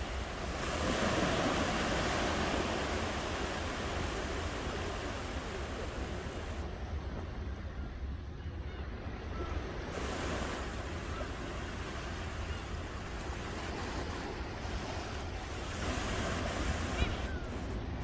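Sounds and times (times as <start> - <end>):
ocean surf washing on shore: 0.0 - 6.8, 9.7 - 18.0.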